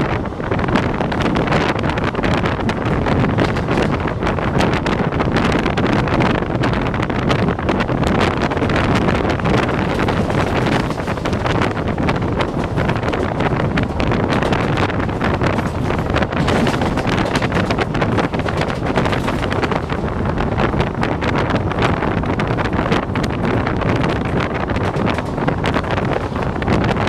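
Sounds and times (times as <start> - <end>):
train running noise: 0.0 - 27.0
wind rushing over microphone: 0.0 - 27.0.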